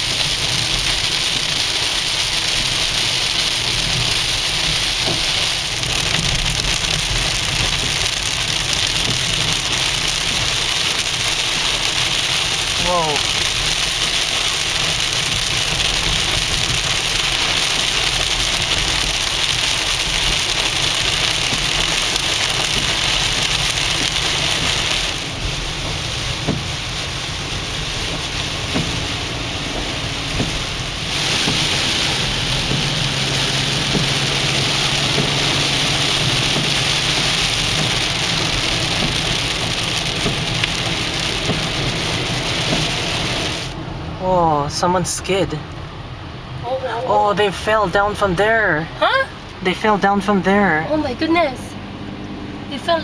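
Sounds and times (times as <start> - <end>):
heavy rain on a car: 0.0 - 53.0
road and engine rumble: 0.0 - 53.0.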